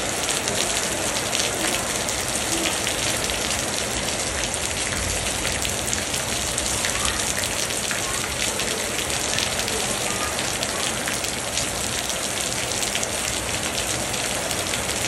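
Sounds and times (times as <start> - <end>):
rain on concrete pavement: 0.0 - 15.0.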